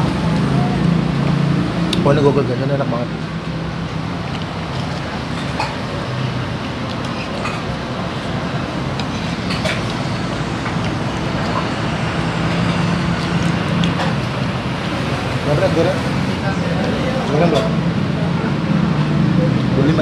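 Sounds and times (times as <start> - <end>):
city road traffic rumble: 0.0 - 20.0.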